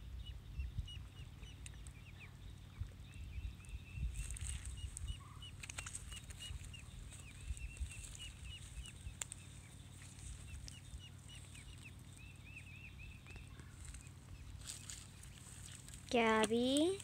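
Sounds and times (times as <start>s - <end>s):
ducklings peeping: 0.0s - 17.0s.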